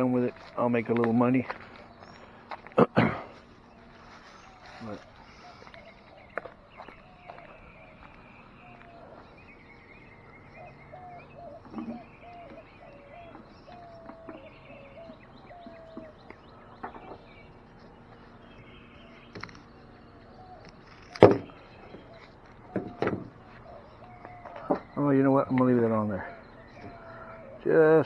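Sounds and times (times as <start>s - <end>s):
faint bird calls: 0.0s - 28.0s.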